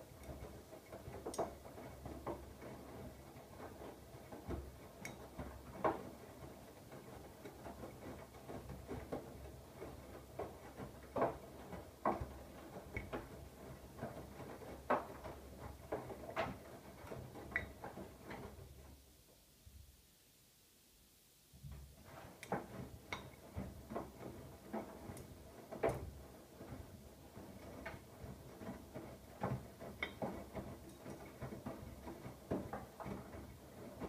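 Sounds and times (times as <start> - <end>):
clicks and knocks inside drum: 0.0 - 18.9, 21.6 - 34.0.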